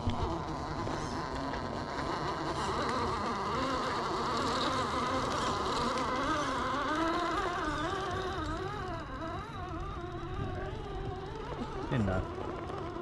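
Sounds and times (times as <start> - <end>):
toy car motor whining: 0.0 - 13.0.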